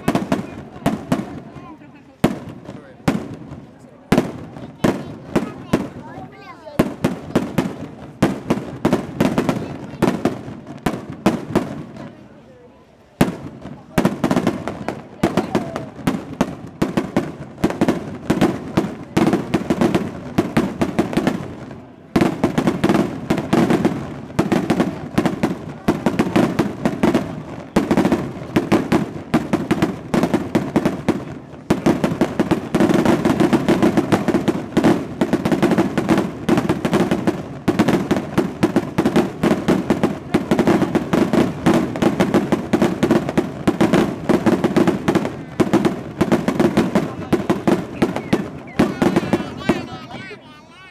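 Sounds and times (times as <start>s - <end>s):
fireworks banging rapidly: 0.0s - 12.5s, 13.1s - 50.9s.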